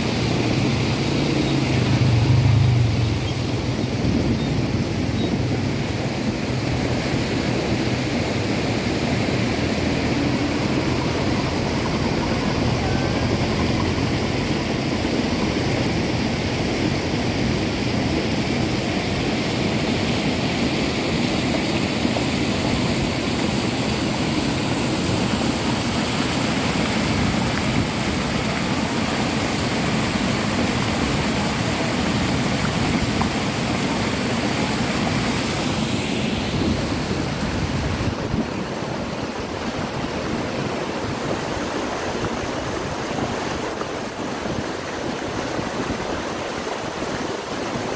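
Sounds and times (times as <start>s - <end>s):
mountain stream and waterfall roar: 0.0s - 47.9s.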